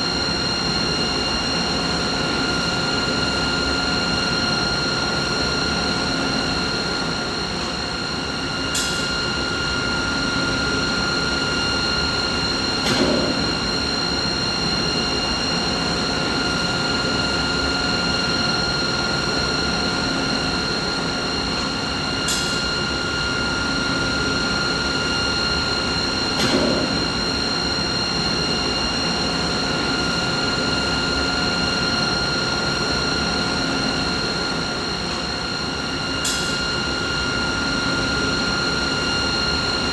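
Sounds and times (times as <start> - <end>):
machine whine over hiss: 0.0 - 39.9.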